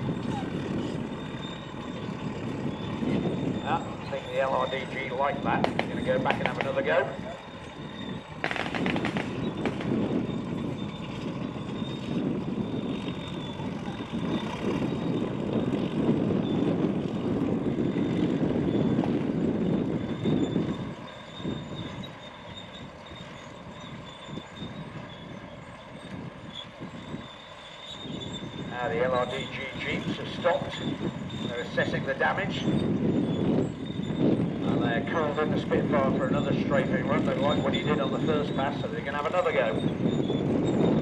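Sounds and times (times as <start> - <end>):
jeep engines rumbling: 0.0 - 41.0.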